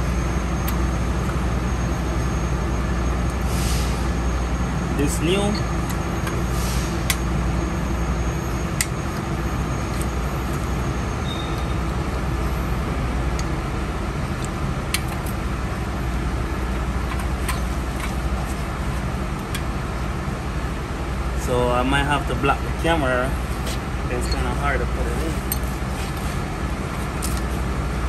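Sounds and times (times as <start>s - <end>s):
low mechanical hum of machine: 0.0s - 28.0s.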